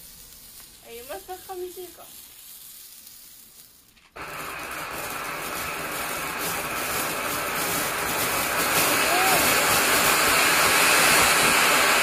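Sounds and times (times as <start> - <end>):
faint firework hiss: 0.0 - 12.0
fountain firework hissing spray: 0.0 - 12.0.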